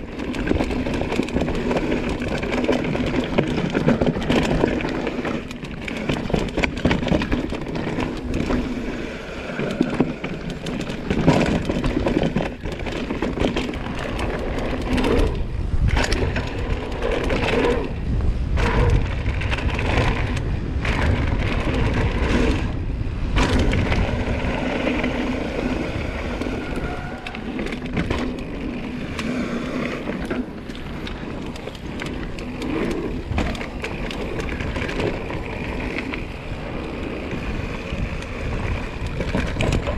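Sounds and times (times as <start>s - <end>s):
bike chain and frame rattling: 0.0s - 39.9s
tyres crunching on loose ground: 0.0s - 39.9s.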